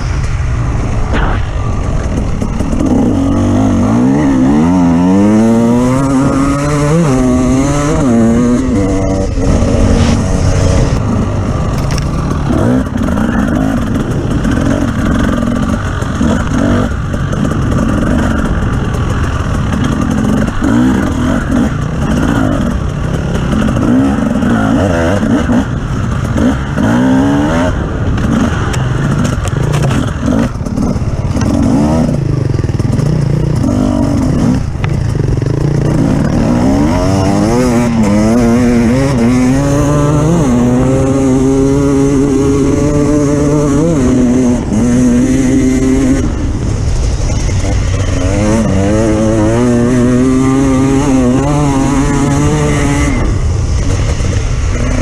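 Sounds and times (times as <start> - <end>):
off-road vehicle engine revving: 1.0 - 55.0.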